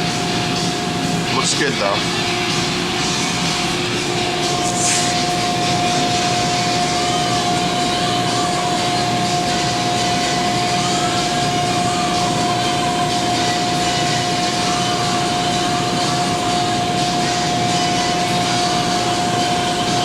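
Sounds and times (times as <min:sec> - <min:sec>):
high hum: 0:00.0 - 0:20.0
steady mechanical drone: 0:00.0 - 0:20.0.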